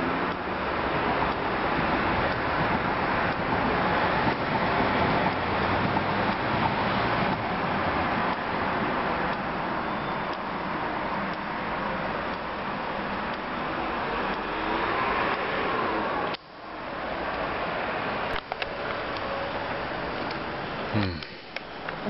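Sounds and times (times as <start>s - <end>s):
road traffic rush: 0.0s - 22.0s.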